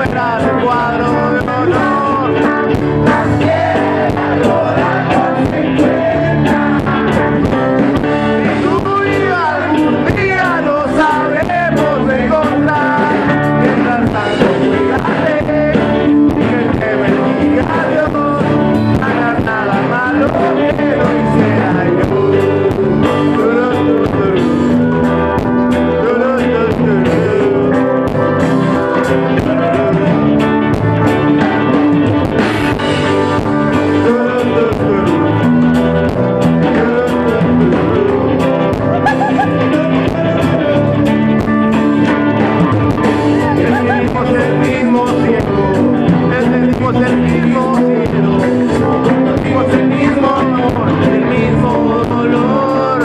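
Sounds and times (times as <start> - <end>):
acoustic guitar: 0.0 - 53.0
drum kit: 0.0 - 53.0
electric guitars: 0.0 - 53.0.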